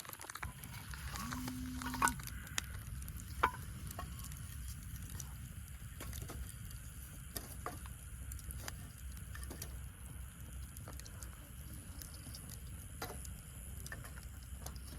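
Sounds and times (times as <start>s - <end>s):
wood fire crackling and popping: 0.0s - 14.9s
fire low rumble: 0.2s - 14.9s.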